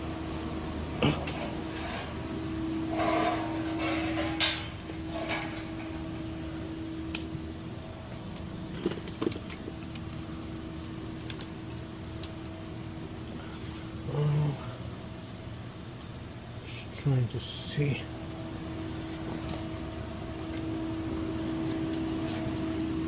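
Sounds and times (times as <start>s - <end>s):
refrigerator compressor humming: 0.0s - 23.0s.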